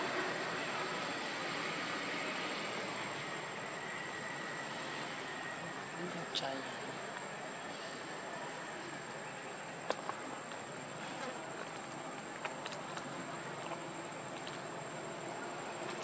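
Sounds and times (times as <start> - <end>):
high insect whine: 0.0 - 16.0
outdoor background hiss: 0.0 - 16.0.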